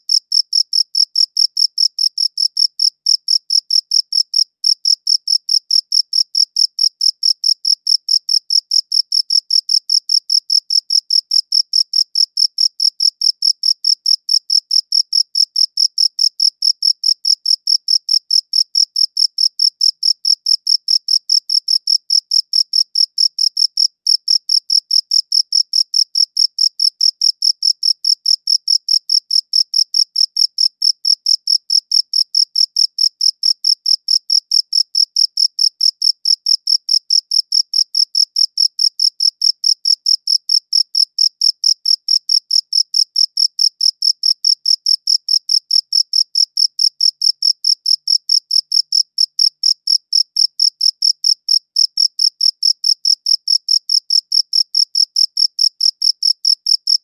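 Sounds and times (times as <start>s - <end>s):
cricket chirping: 0.1s - 57.0s.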